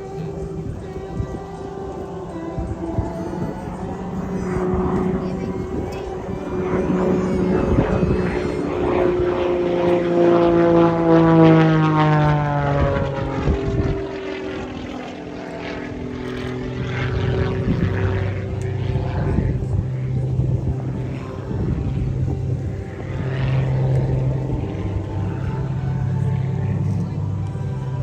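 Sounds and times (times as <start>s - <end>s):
propeller plane engine passing: 0.0s - 28.0s.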